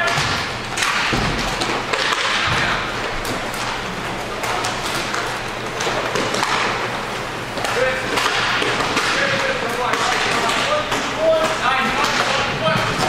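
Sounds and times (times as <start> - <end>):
hockey sticks and puck clacking: 0.0 - 13.0.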